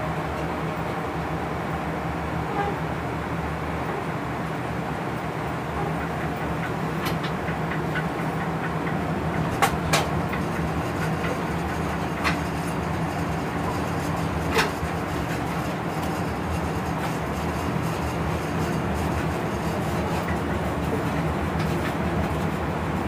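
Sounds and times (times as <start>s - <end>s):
electric locomotive rumbling: 0.0s - 23.0s.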